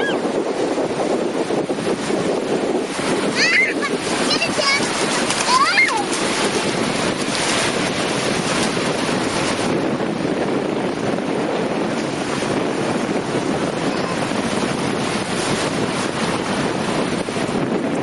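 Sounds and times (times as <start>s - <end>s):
sea surf washing in: 0.0s - 18.0s
wind blowing across microphone: 0.0s - 18.0s.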